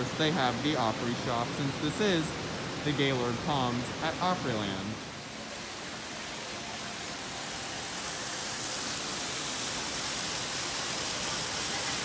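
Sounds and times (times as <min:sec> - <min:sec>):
indoor fountain water rushing: 0:00.0 - 0:12.0.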